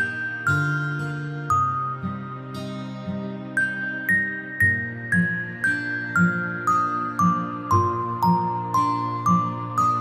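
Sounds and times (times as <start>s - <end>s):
instrumental lullaby music: 0.0s - 10.0s.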